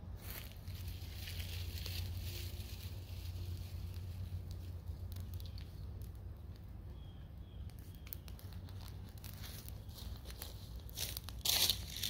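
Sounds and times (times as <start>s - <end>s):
low steady rumble: 0.0s - 12.0s
fire crackling and popping: 1.3s - 6.7s, 7.3s - 12.0s.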